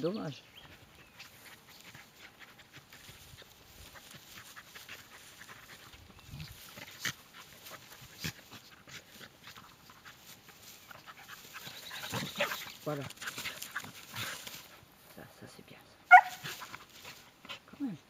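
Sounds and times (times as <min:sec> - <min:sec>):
dogs panting and snuffling: 0:00.0 - 0:18.0
rustling in grass: 0:00.0 - 0:18.0.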